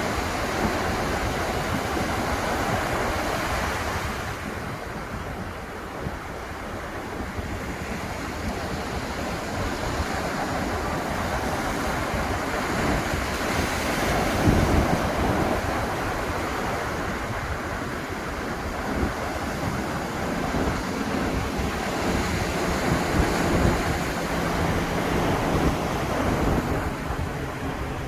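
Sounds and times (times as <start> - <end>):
ocean surf breaking: 0.0 - 28.0
wind buffeting microphone: 0.0 - 28.0.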